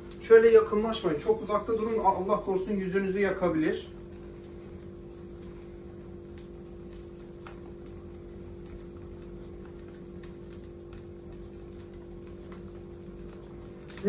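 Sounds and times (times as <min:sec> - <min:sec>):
steady low hum: 0:00.0 - 0:14.0
wood fire crackling: 0:00.0 - 0:14.0.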